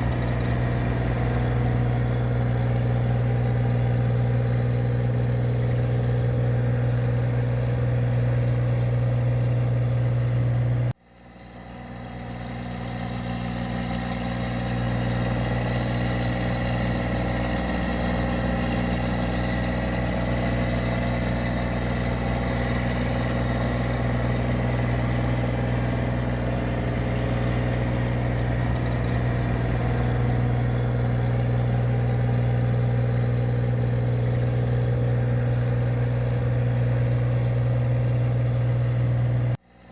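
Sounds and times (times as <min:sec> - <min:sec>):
machine engine droning: 0:00.0 - 0:39.9.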